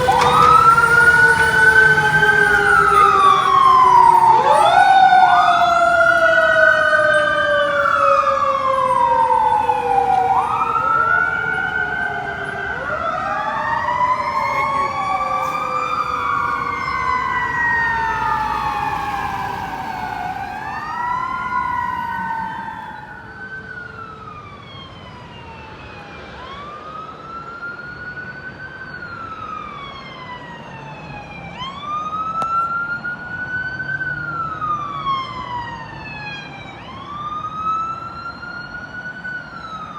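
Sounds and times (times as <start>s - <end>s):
fire truck sirens wailing: 0.0s - 39.9s.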